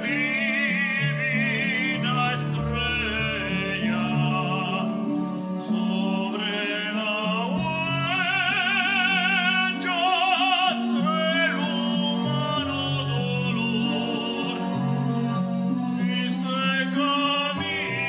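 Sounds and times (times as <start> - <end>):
instrumental accompaniment: 0.0 - 18.0
operatic singing: 0.0 - 18.0.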